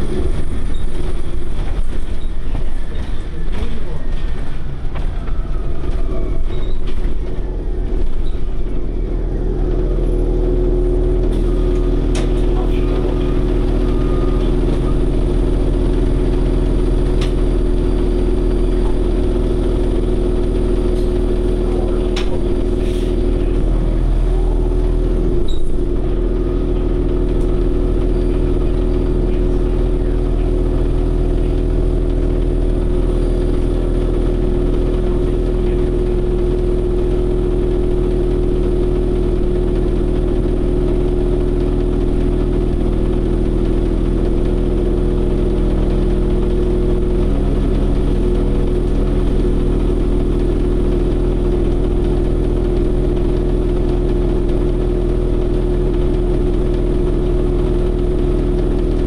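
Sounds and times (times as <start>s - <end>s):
bus drivetrain hum and rumble: 0.0s - 59.0s.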